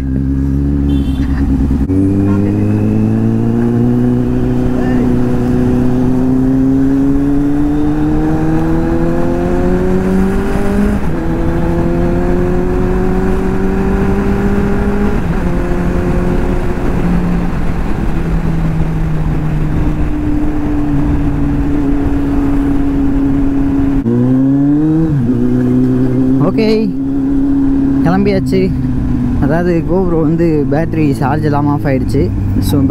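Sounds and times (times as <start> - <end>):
motorcycle engine revving: 0.0 - 32.9
wind rumble: 0.0 - 32.9.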